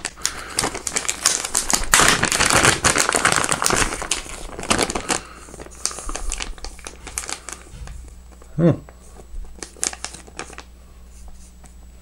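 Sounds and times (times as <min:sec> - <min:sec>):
plastic package crinkling: 0:00.0 - 0:08.5, 0:09.4 - 0:10.7.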